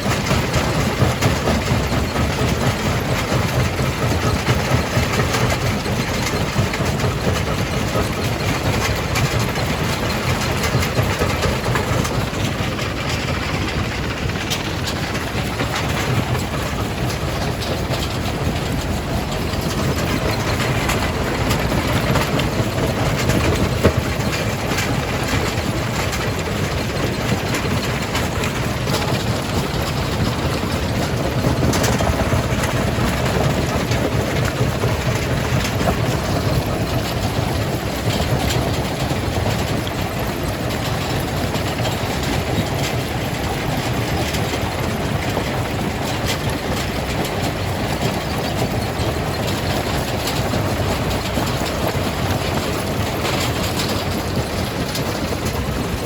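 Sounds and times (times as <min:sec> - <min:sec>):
rock crusher rumbling: 0:00.0 - 0:56.0.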